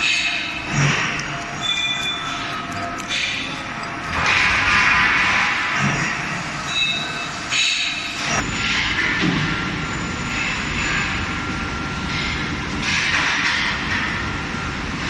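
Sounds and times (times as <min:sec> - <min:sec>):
factory machinery running: 0:00.0 - 0:15.0
faint machine whine: 0:00.0 - 0:15.0.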